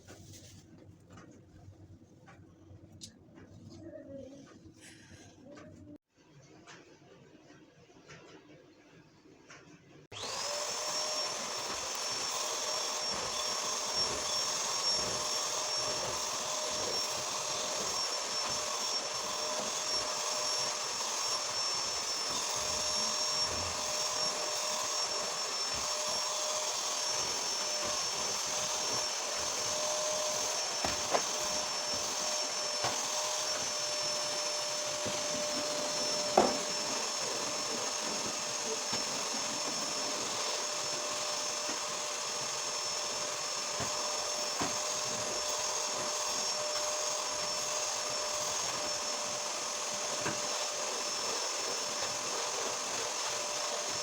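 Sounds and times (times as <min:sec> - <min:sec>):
vacuum cleaner motor whining: 0:10.1 - 0:54.0.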